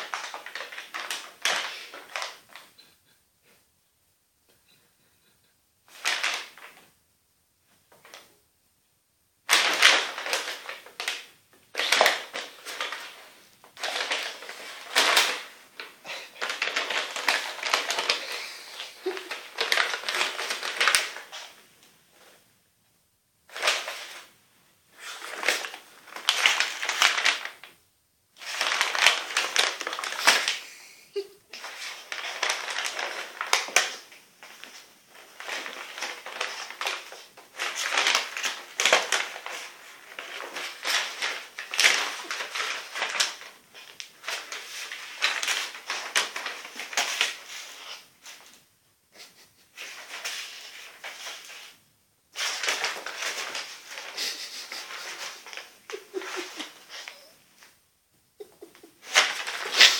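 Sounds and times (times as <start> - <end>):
paper bag crumpling and rustling: 0.0 - 2.8, 5.9 - 6.9, 9.5 - 22.4, 23.5 - 24.3, 24.9 - 27.8, 28.4 - 30.8, 31.6 - 48.6, 49.2 - 57.7, 58.4 - 59.9.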